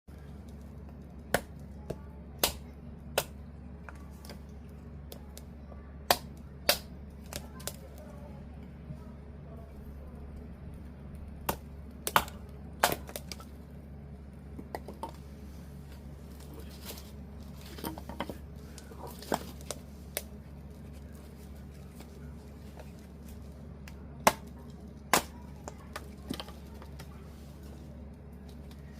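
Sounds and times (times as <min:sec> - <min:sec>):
kindling splitting cracks: 0:00.1 - 0:08.2, 0:10.3 - 0:28.9
low hum: 0:00.1 - 0:28.9.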